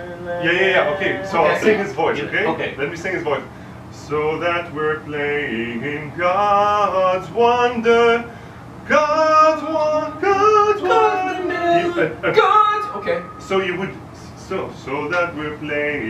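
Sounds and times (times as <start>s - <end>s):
man singing unaccompanied: 0.0s - 2.6s, 4.0s - 8.3s, 8.9s - 12.6s, 13.4s - 16.0s.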